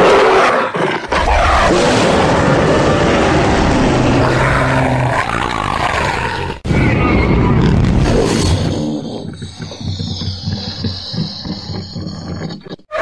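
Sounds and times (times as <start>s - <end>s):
monster rumbling roar: 0.0s - 13.0s.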